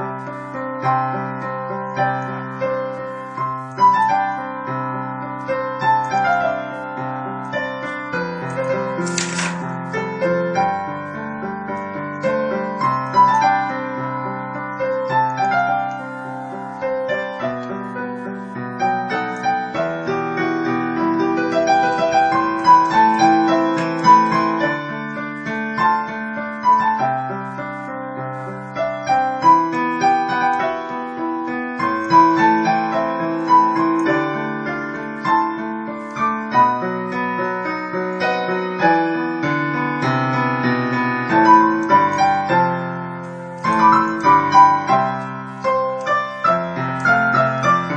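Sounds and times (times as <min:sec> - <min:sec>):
digital piano melody and chords: 0:00.0 - 0:47.9.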